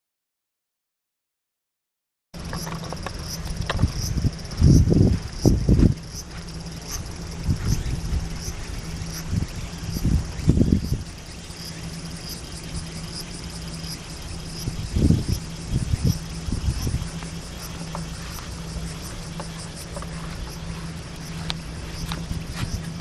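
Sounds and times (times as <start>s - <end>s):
crickets chirping: 2.4s - 23.0s
steady low hum: 2.4s - 23.0s.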